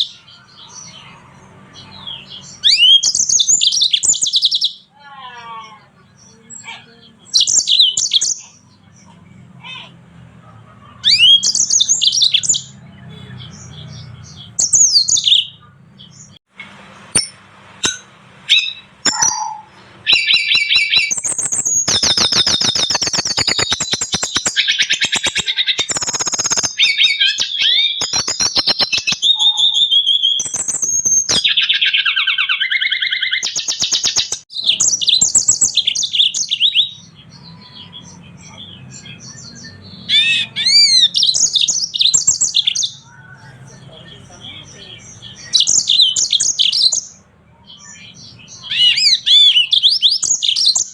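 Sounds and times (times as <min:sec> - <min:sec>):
finches chirping and trilling: 0:00.0 - 0:16.4, 0:18.5 - 0:50.9.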